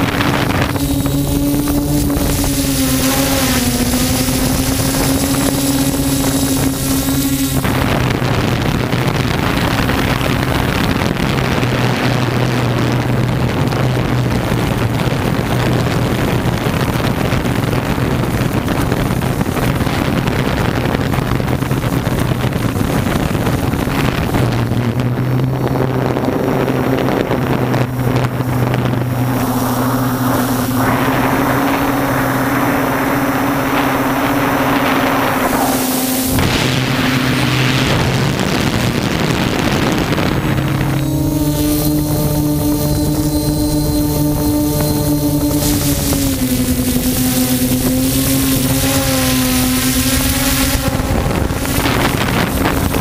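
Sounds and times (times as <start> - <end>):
drone propellers humming: 0.0 - 53.0
wind on microphone: 0.0 - 53.0.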